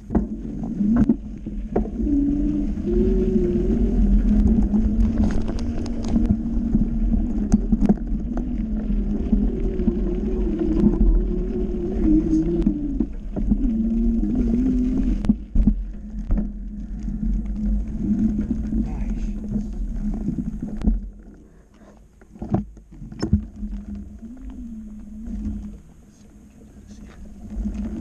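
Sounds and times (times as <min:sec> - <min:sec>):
wavering low tone: 0:00.0 - 0:21.4, 0:23.1 - 0:28.0
wind buffeting microphone: 0:00.0 - 0:21.4, 0:22.4 - 0:28.0
mountain bike rattling on dirt trail: 0:00.0 - 0:28.0.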